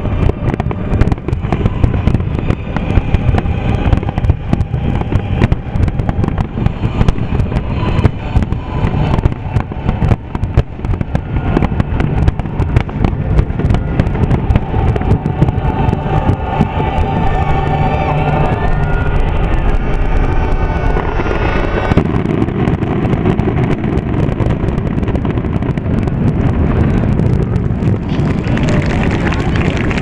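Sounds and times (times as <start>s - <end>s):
firework bangs: 0.0s - 30.0s.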